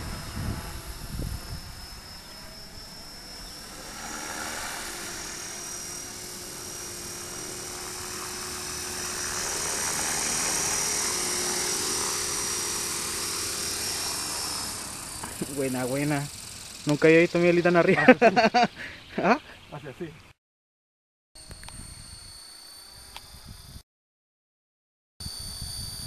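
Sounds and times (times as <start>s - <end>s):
model helicopter rotor whining: 0.0s - 18.8s, 21.4s - 23.8s.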